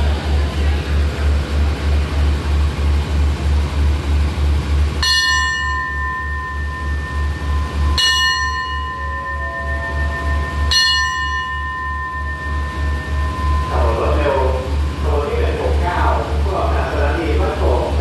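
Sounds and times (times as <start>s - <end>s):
low rhythmic throb: 0.0s - 18.0s
station bell ringing: 0.0s - 18.0s.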